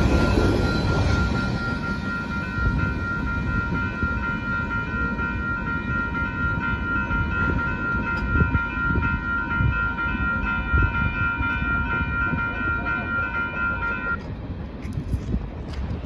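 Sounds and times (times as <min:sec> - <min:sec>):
crossing warning bell ringing: 0:00.0 - 0:14.3.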